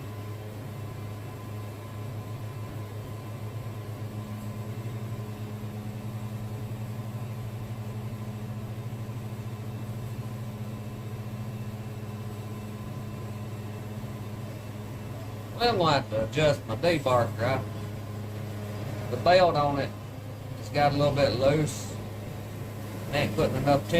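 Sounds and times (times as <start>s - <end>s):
sawmill engine humming: 0.0s - 23.9s.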